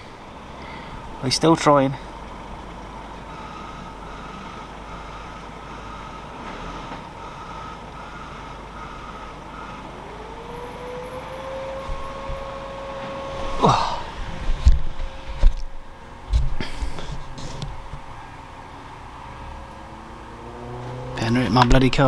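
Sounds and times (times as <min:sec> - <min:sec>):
van engine whine: 0:00.0 - 0:22.0.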